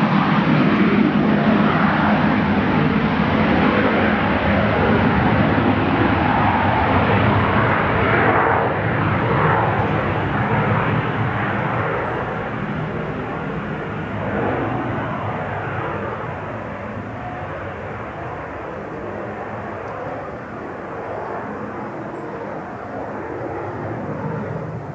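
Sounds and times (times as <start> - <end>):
jet engines at takeoff: 0.0 - 24.9.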